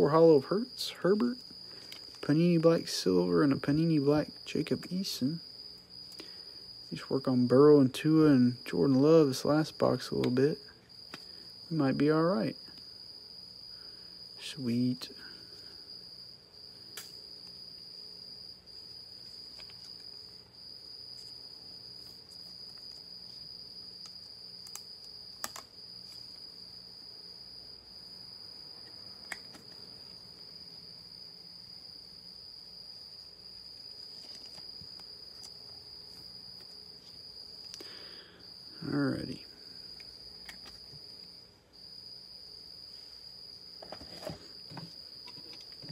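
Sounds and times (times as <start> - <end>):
cricket chirping: 0.0 - 45.9.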